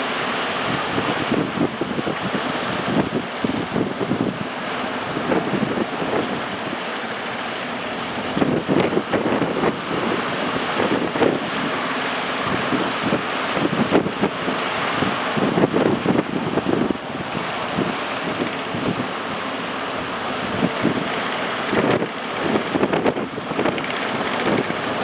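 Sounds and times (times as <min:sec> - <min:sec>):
surf rushing: 0:00.0 - 0:25.0
wind buffeting microphone: 0:00.0 - 0:25.0.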